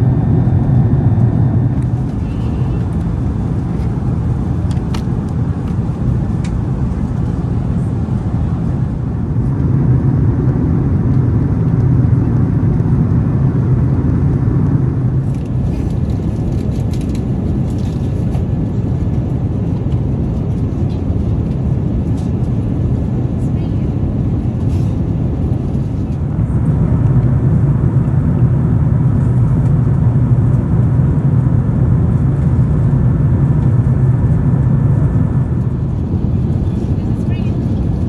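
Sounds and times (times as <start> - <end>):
aircraft cabin engine rumble: 0.0 - 38.0.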